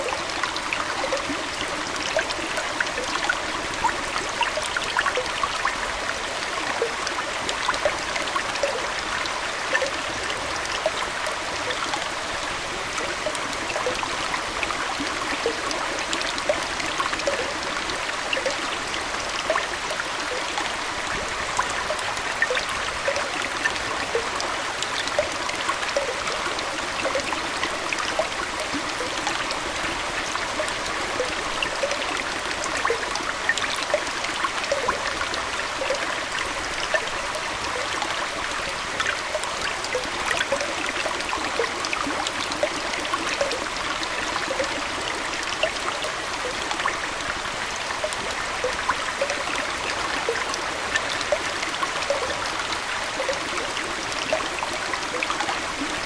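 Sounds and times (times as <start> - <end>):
aquarium water trickling: 0.0 - 56.0
bubbly drips: 0.0 - 56.0.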